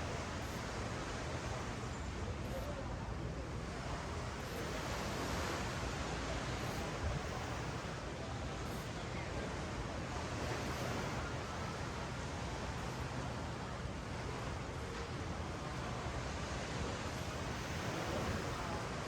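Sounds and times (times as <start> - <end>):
ocean waves washing up: 3.2 - 19.0.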